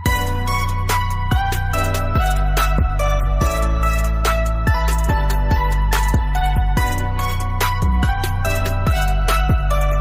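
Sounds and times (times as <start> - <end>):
sharp percussion: 0.0 - 10.0.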